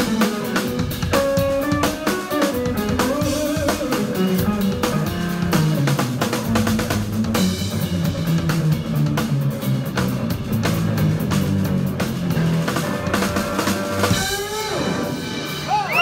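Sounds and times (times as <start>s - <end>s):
drum kit beat: 0.0s - 16.0s
electric bass line: 0.0s - 16.0s
electric guitar: 0.0s - 16.0s.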